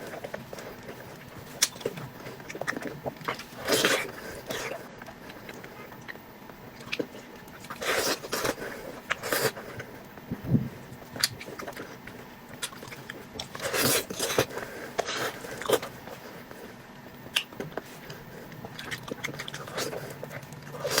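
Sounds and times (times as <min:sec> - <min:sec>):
person biting and chewing food: 0:00.0 - 0:21.0.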